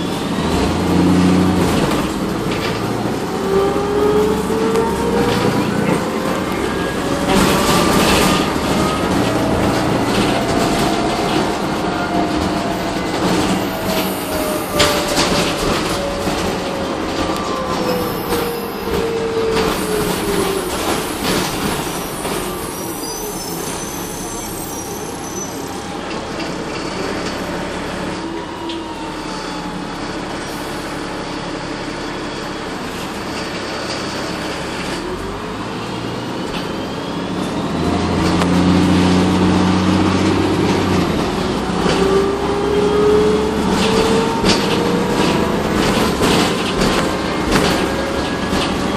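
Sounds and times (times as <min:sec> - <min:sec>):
bus transmission whine: 0:00.0 - 0:48.9.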